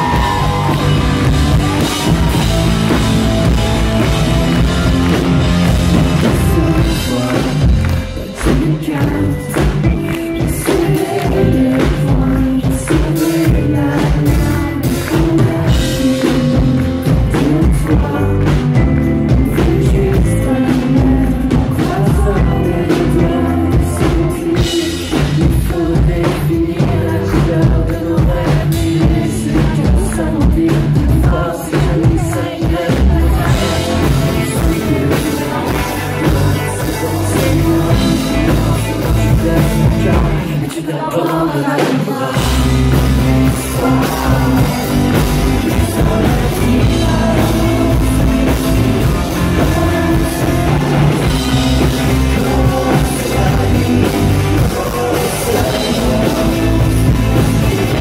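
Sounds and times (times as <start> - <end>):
bass guitar: 0.0 - 40.7, 42.2 - 58.0
drums: 0.0 - 58.0
electric guitars: 0.0 - 58.0
man singing: 0.0 - 58.0.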